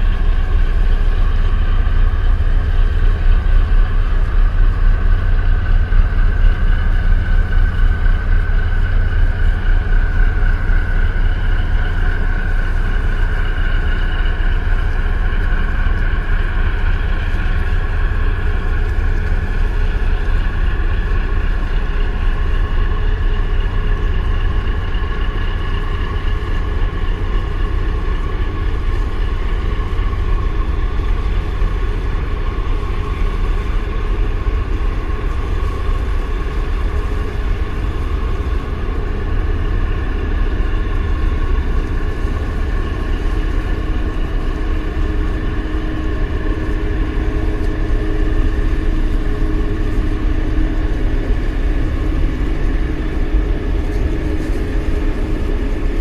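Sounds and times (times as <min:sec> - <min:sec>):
heavy low rumble: 0:00.0 - 0:56.0
ship engines droning: 0:00.0 - 0:56.0
steady whining tones: 0:00.0 - 0:56.0.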